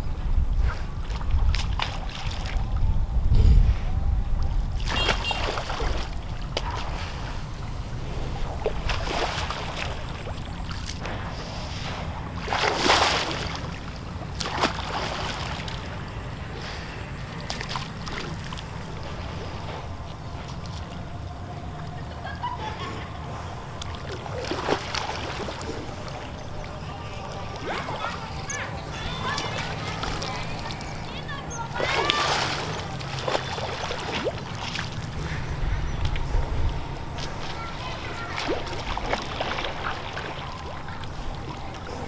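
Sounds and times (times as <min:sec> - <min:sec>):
wind rumble on microphone: 0:00.0 - 0:42.0
animal splashing through water: 0:00.9 - 0:02.8, 0:04.7 - 0:22.1, 0:22.7 - 0:42.0.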